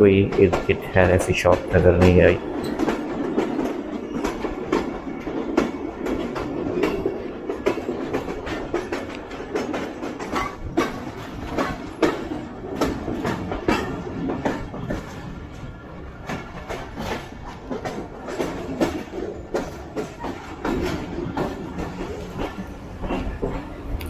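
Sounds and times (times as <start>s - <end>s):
train wheels clattering over rail joints: 0.0s - 24.0s.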